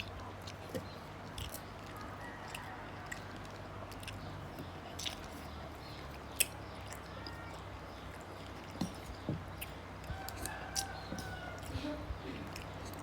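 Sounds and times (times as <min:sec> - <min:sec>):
chewing and eating: 0:00.0 - 0:13.0
low steady hum: 0:00.0 - 0:13.0.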